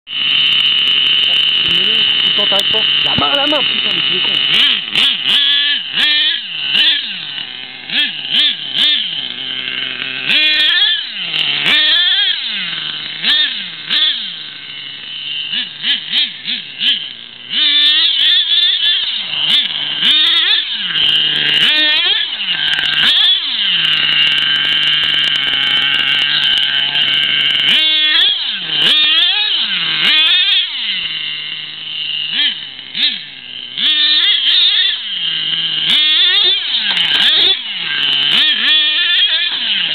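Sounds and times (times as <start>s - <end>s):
model truck engine revving: 0.1s - 39.9s.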